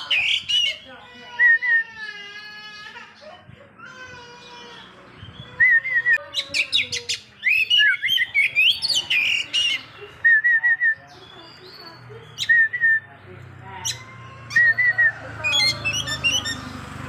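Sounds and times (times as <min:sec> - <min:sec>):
bird singing: 0:00.0 - 0:01.9, 0:04.4 - 0:17.0.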